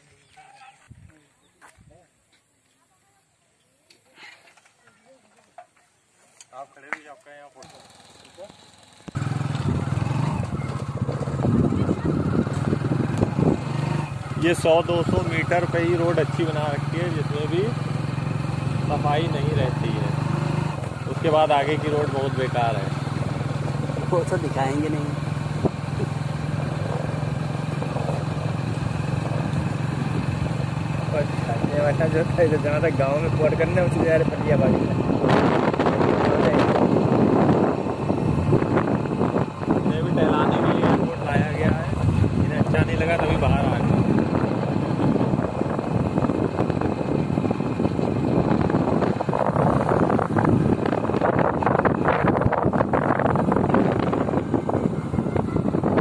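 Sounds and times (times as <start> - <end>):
motorcycle engine running: 7.6 - 56.0
wind buffeting microphone: 9.1 - 56.0.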